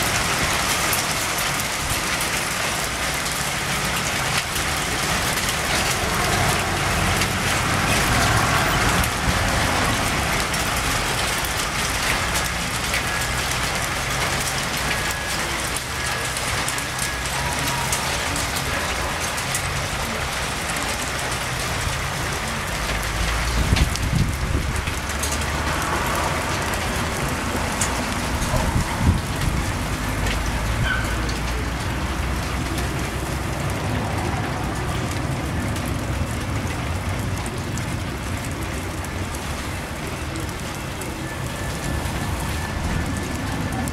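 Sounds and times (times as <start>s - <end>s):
hailstones striking surfaces: 0.0s - 43.9s.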